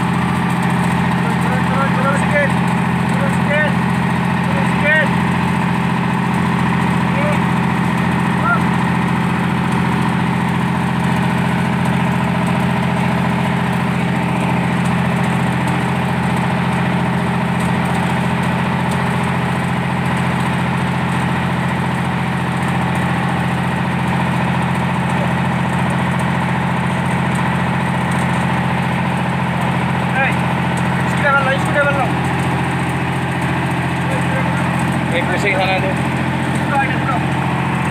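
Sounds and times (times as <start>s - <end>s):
large engine idling: 0.0s - 37.9s.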